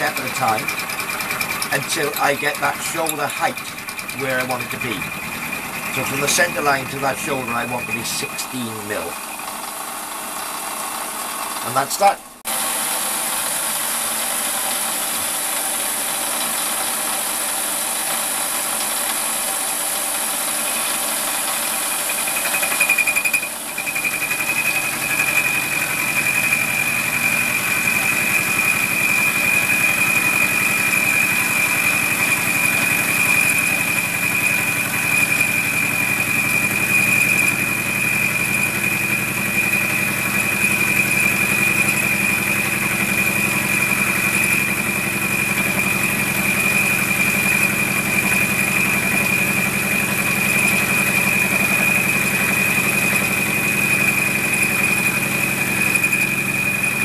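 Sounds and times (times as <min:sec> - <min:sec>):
high-pitched milling cutter: 0:00.0 - 0:57.0
lathe motor running: 0:00.0 - 0:57.0.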